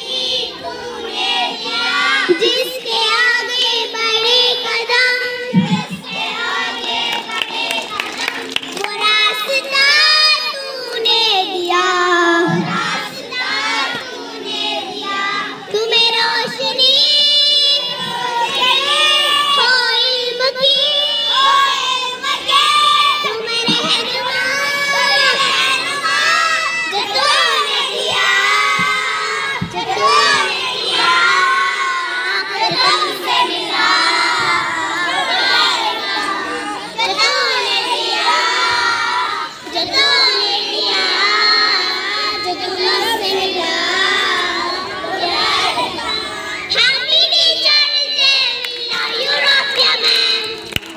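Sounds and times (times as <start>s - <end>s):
girl singing into a microphone: 0.0s - 6.8s, 8.7s - 50.7s
children singing: 0.0s - 50.8s.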